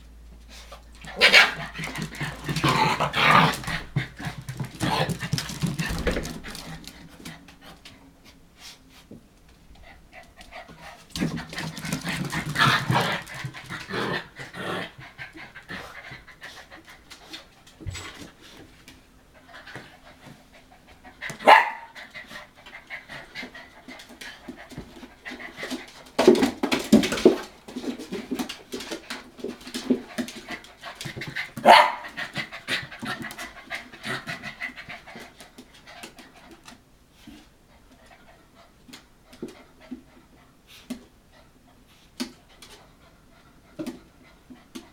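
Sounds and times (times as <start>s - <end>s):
puppies scrabbling with clicks: 0.6s - 8.0s, 9.4s - 41.2s, 42.2s - 43.0s, 43.6s - 44.9s.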